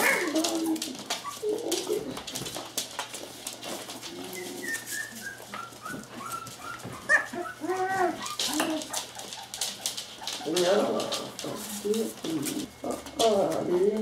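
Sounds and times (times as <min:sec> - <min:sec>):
puppies yelping: 0:00.0 - 0:02.5, 0:04.0 - 0:14.0
claws clicking on wooden floor: 0:00.0 - 0:14.0
puppies squeaking and whining: 0:00.0 - 0:14.0.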